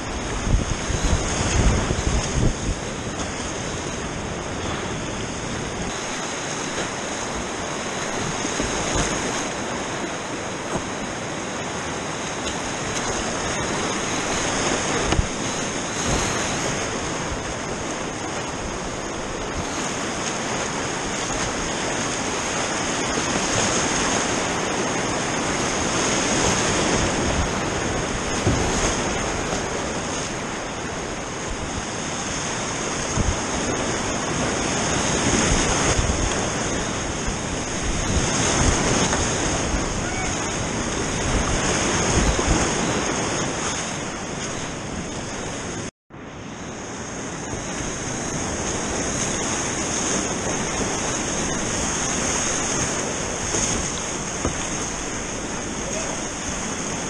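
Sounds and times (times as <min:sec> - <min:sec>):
whitewater rapids roaring: 0:00.0 - 0:57.0
wind buffeting microphone: 0:00.0 - 0:57.0.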